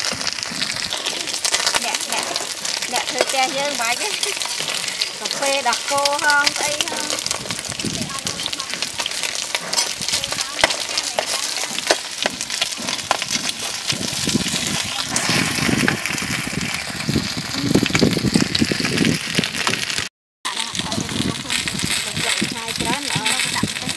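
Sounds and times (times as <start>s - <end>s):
food sizzling on griddle: 0.0s - 23.9s.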